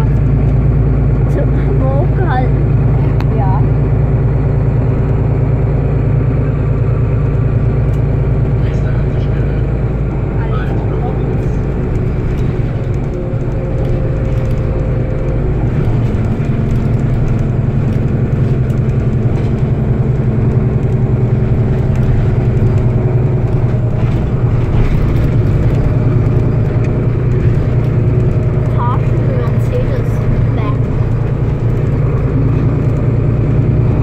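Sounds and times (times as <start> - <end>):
bus engine and road hum: 0.0 - 34.0.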